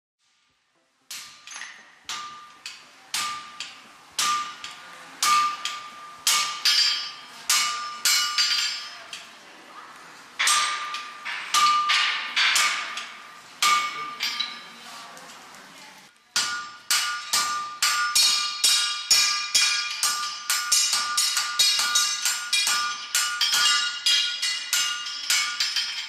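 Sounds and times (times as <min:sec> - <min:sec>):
hammer striking iron on anvil: 0:01.1 - 0:09.3, 0:10.4 - 0:14.7, 0:16.4 - 0:26.0.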